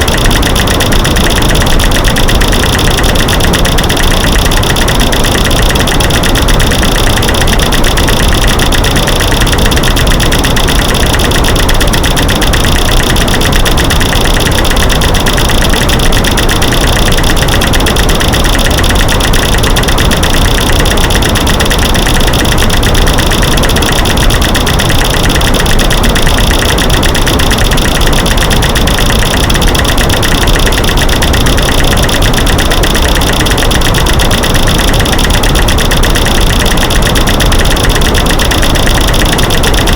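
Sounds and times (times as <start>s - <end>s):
stream of rapid clicks and cracks: 0.0s - 39.9s.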